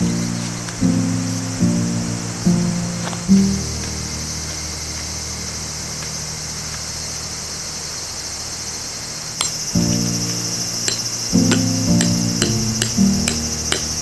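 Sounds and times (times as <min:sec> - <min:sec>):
soft background music: 0:00.0 - 0:07.7, 0:09.4 - 0:14.0
insects chirring: 0:00.0 - 0:14.0.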